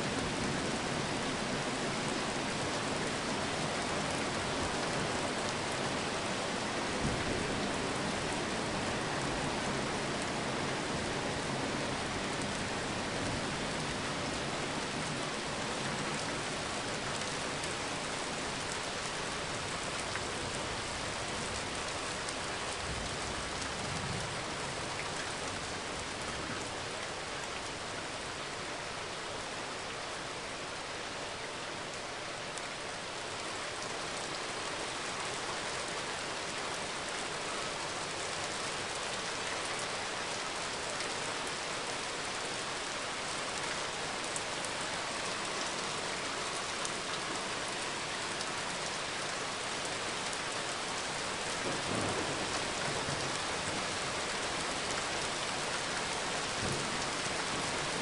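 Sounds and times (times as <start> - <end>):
rain on hard surfaces: 0.0 - 58.0.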